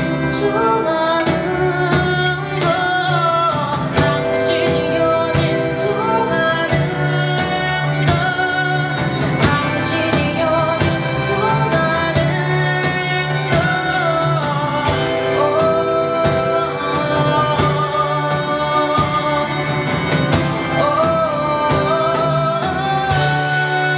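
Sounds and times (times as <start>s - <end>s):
drum and cymbal hits: 0.0s - 23.9s
live band music: 0.0s - 23.9s
person singing: 0.0s - 23.9s.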